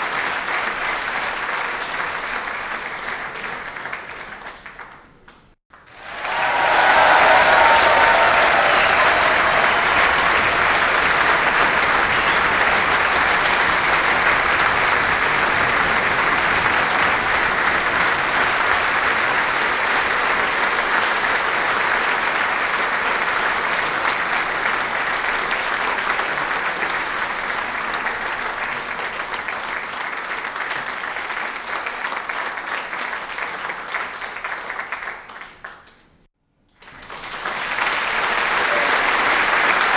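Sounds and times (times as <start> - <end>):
audience applauding: 0.0 - 5.0, 5.7 - 36.0, 36.8 - 39.9.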